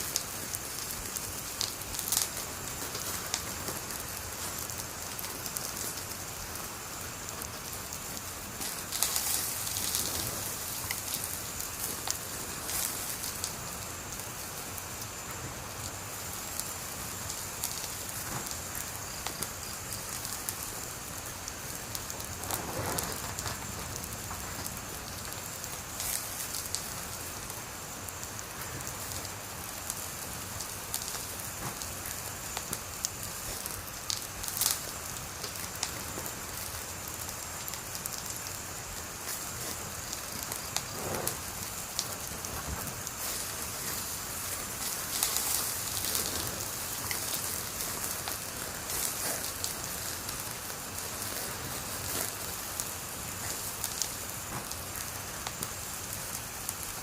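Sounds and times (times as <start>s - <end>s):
fire crackles and pops: 0.0s - 57.0s
wood fire hissing: 0.0s - 57.0s.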